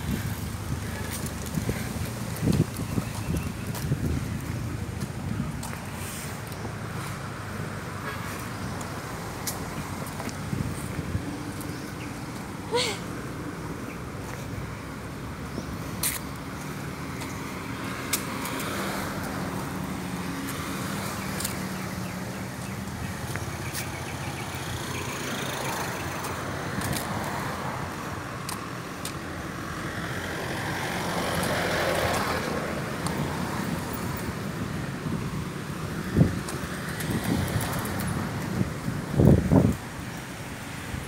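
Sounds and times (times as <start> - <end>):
engine hum: 0.0 - 41.0
road traffic: 0.0 - 41.0.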